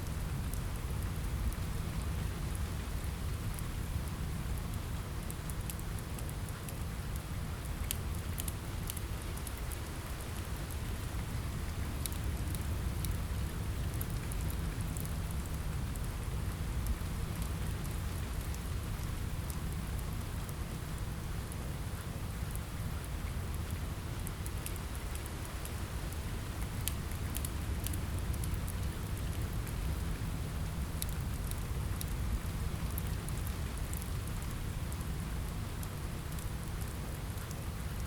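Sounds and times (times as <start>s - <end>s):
rain on a window: 0.0s - 38.0s
wood fire crackling: 0.0s - 38.0s.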